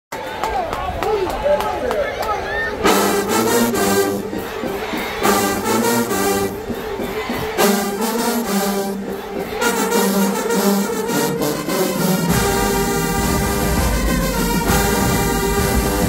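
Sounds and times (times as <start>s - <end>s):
marching band brass playing: 2.7s - 16.0s
percussion: 2.8s - 16.0s.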